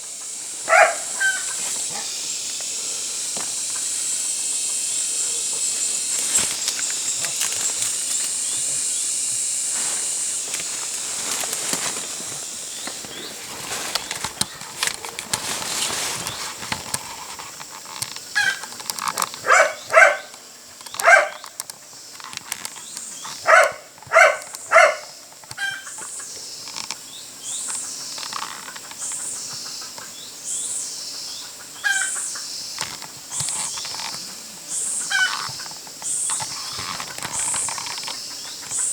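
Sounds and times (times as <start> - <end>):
high steady hiss: 0.0 - 38.9.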